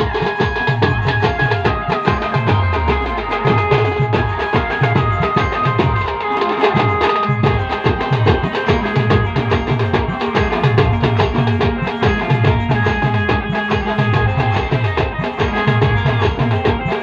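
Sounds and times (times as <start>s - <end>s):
fast drum beat: 0.0s - 17.0s
held melody notes: 0.0s - 17.0s.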